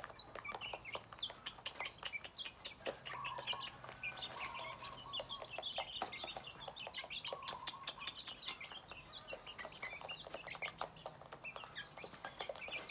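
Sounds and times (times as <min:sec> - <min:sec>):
beaks pecking in metal bowl: 0:00.0 - 0:12.9
chicks peeping: 0:00.0 - 0:12.9.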